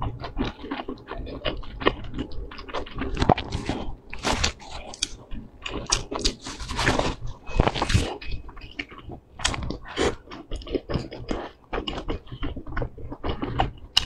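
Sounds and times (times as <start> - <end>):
wet chewing and mouth sounds: 0.0 - 14.0.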